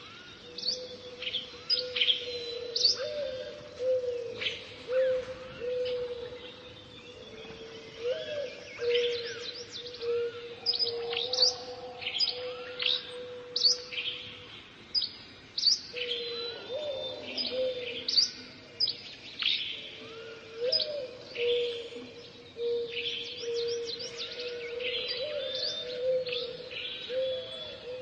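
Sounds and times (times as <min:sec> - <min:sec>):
birds singing and chirping: 0:00.0 - 0:28.0.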